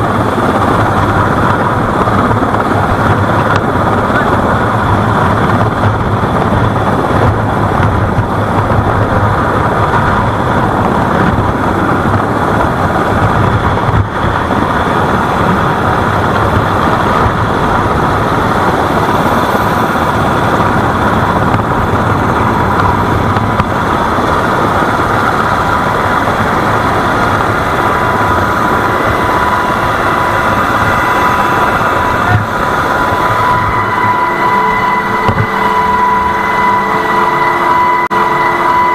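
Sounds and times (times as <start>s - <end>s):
engine running loudly: 0.0s - 38.9s
high whine: 0.0s - 38.9s.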